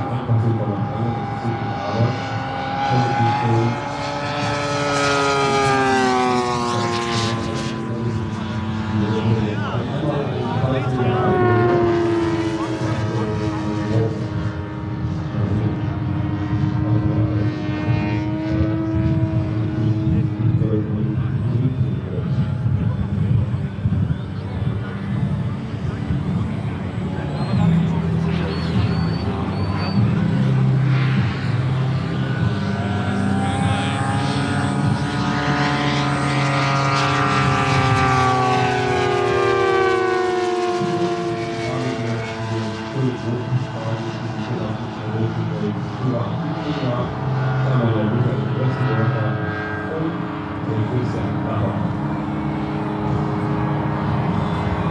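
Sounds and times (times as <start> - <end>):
model plane engine drone: 0.0 - 54.9.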